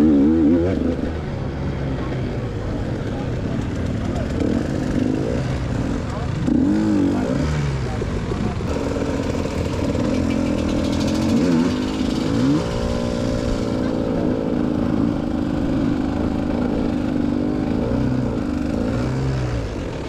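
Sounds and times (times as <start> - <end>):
dirt bike engine revving: 0.0 - 2.3, 3.2 - 20.0.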